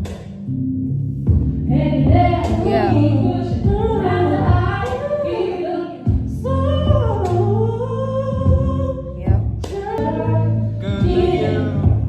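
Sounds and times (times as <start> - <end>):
low bass notes: 0.0 - 5.4, 6.1 - 12.0
women singing: 1.7 - 12.0.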